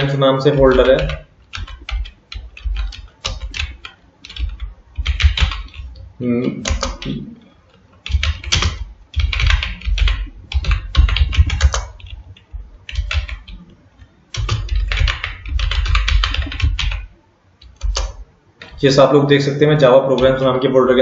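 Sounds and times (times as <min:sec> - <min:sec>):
typing on computer keyboard: 0:00.0 - 0:18.8, 0:19.8 - 0:20.6.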